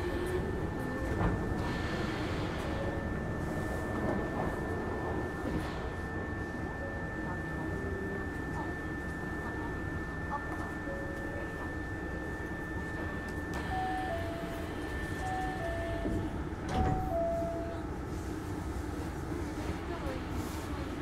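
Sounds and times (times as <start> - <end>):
train interior rumble: 0.0 - 21.0.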